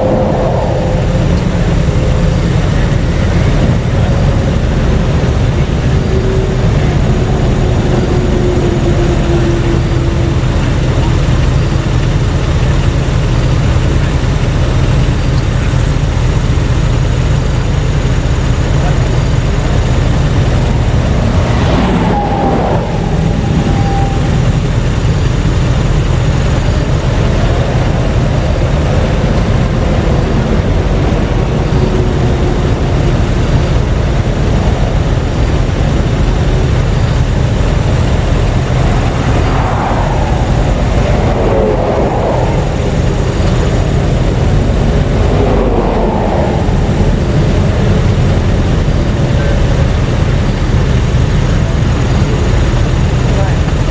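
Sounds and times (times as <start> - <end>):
low road traffic rumble: 0.0 - 53.9
vehicles passing close by: 0.0 - 53.9.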